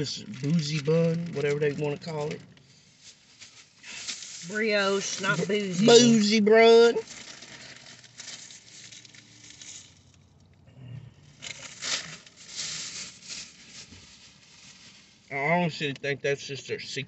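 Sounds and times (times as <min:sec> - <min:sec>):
paper wrapper crinkling: 0:00.0 - 0:10.2, 0:11.4 - 0:15.2.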